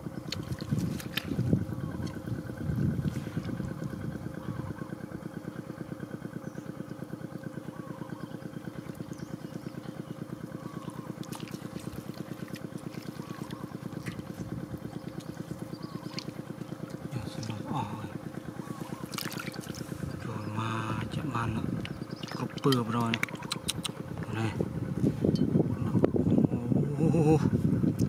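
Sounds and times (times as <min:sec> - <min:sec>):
small engine running: 0:00.0 - 0:27.8.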